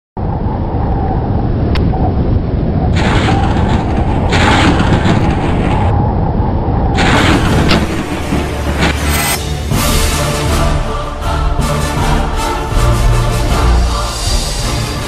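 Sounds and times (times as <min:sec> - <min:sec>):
dense low rumble: 0:00.2 - 0:15.0
whooshing swells: 0:02.9 - 0:15.0.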